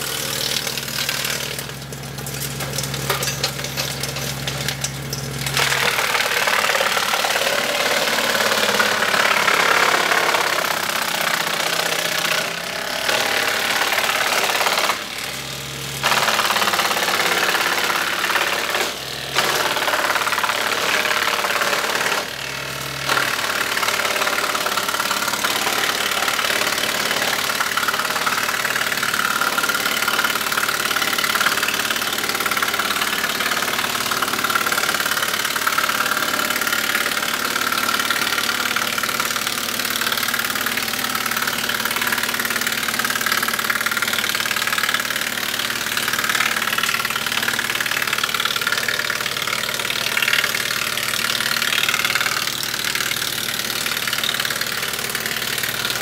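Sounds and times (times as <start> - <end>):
tractor engine: 0.0 - 56.0
wood chipper chipping a branch: 0.0 - 56.0.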